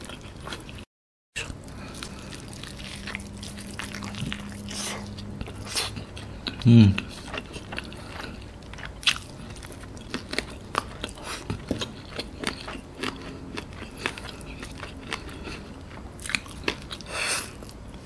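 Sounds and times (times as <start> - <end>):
chewing crispy fried chicken: 0.0 - 18.0.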